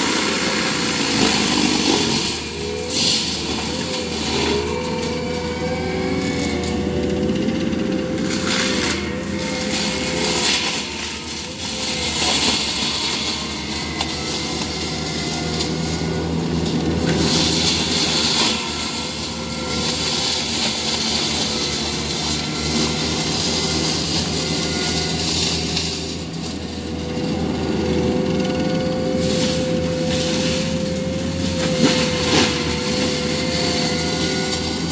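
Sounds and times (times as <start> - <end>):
diesel engine under load: 0.0 - 34.9
tree shredding: 0.0 - 34.9.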